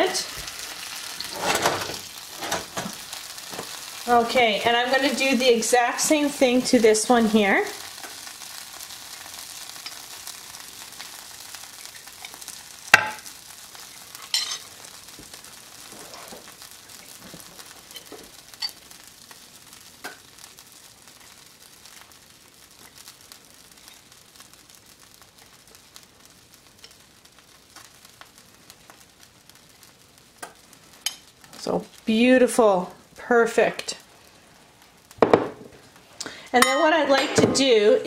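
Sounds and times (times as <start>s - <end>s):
chicken sizzling: 0.0s - 38.0s.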